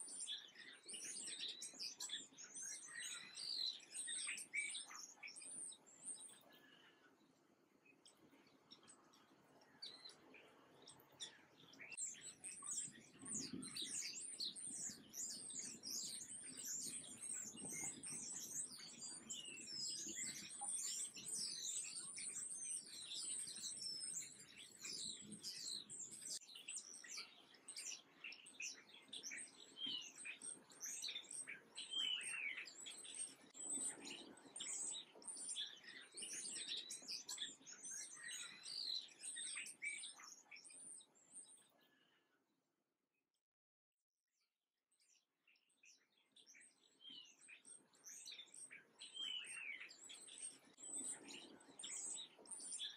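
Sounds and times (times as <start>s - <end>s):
songbirds chirping and twittering: 0.0s - 42.6s, 44.9s - 52.9s.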